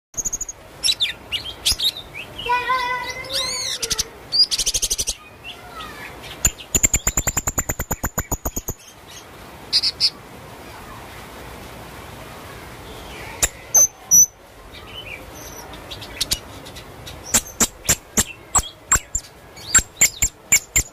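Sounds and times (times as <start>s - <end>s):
parrot chirping and trilling: 0.2s - 10.2s, 13.2s - 20.9s.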